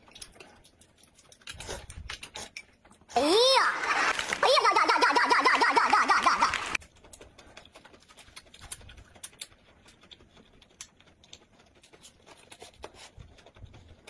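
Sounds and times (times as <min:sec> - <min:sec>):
people chewing and crunching: 0:00.0 - 0:14.0.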